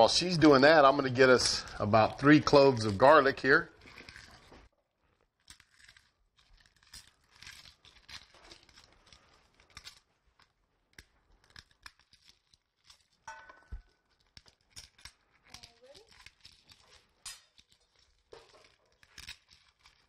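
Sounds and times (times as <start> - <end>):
garlic skin crinkling: 0.0 - 20.0.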